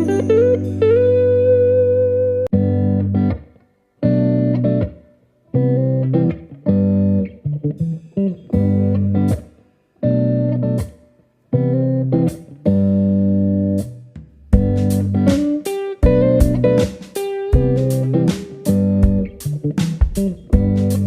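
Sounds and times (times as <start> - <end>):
plucked guitar chords: 0.0 - 21.0.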